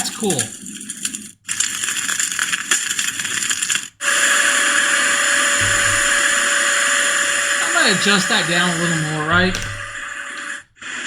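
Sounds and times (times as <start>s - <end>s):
crackling campfire track: 0.0s - 11.0s
steady appliance-like whirring: 0.0s - 11.0s.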